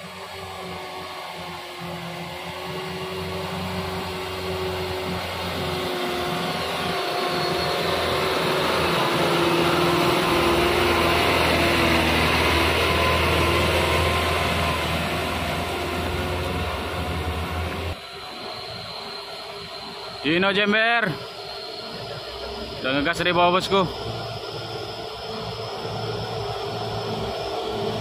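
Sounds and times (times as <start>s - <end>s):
diesel truck engine pulling uphill: 0.0s - 28.0s.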